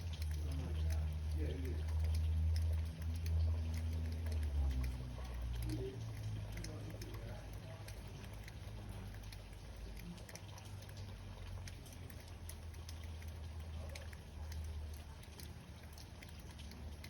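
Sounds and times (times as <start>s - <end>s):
raindrops tapping: 0.0s - 17.0s.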